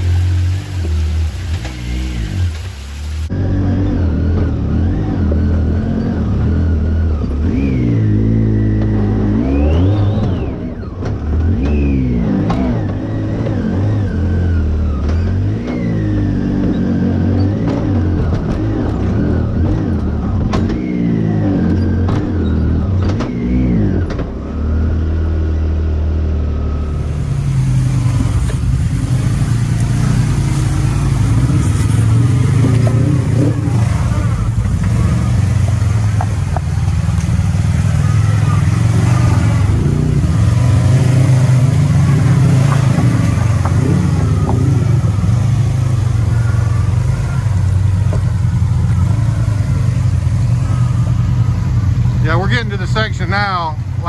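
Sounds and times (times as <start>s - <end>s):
utility vehicle engine revving: 0.0s - 54.0s.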